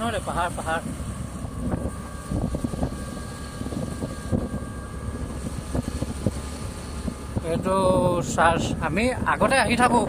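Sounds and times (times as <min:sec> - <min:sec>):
motor scooter engine hum: 0:00.0 - 0:10.0
wind rumble on microphone: 0:00.0 - 0:10.0.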